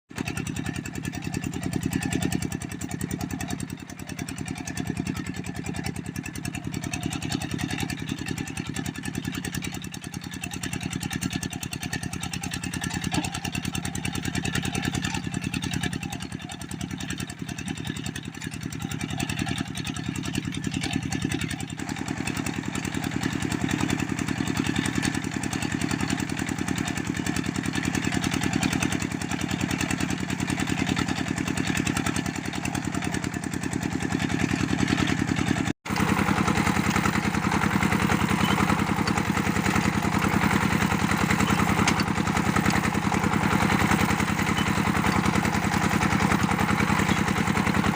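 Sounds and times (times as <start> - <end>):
brick press engine pulsing: 0.2 - 47.9.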